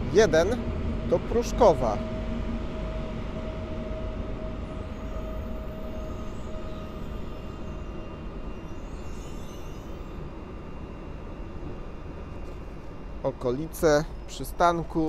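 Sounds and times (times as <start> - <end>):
electric train rumble: 0.0 - 15.0
train whine: 0.0 - 15.0.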